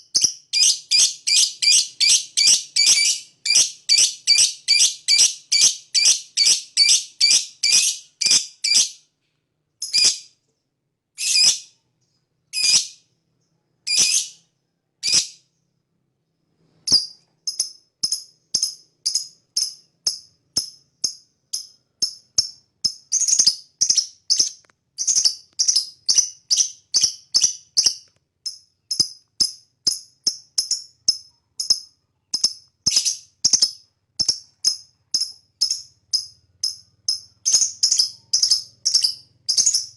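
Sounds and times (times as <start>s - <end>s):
lovebird high-pitched chirps: 0.0s - 9.0s, 9.8s - 10.4s, 11.2s - 15.6s, 16.7s - 39.9s.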